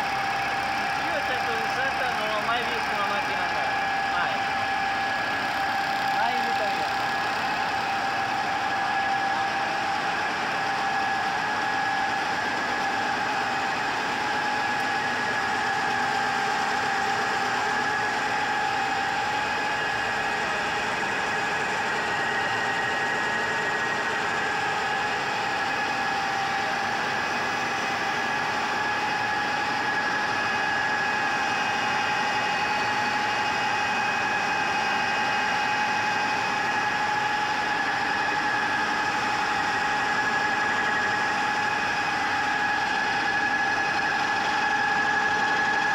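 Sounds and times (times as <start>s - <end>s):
constant machine whine: 0.0s - 45.9s
printing press mechanical hum: 0.0s - 45.9s.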